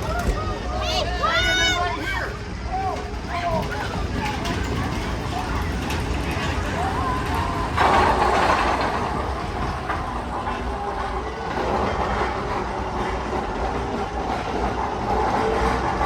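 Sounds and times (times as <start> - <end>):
roller coaster train rumbling: 0.0 - 16.0.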